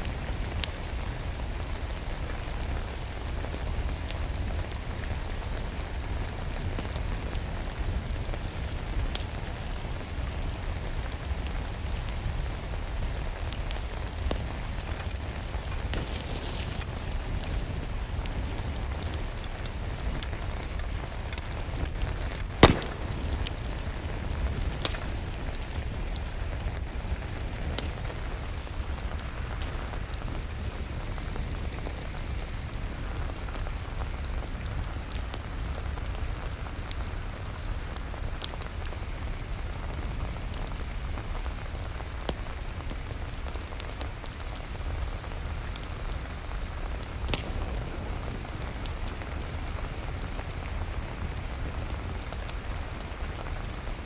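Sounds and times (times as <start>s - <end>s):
steady rain falling: 0.0s - 54.0s
wood fire crackling: 0.0s - 54.0s.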